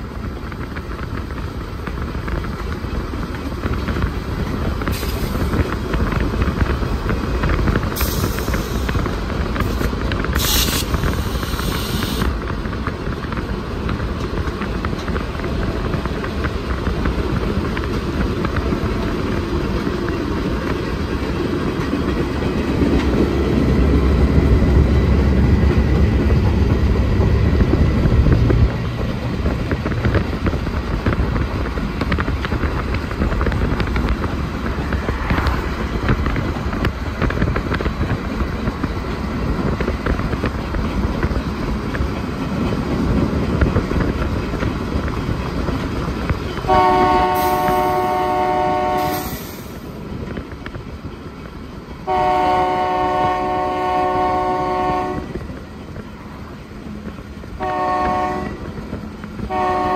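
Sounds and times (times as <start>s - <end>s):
diesel locomotive engine rumble: 0.0s - 59.9s
road and wind noise: 0.0s - 59.9s.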